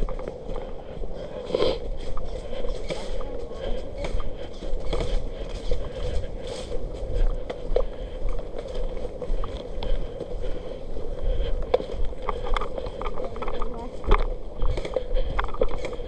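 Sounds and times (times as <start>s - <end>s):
faint steady hum: 0.0s - 16.0s
wind rumbling on microphone: 0.0s - 16.0s.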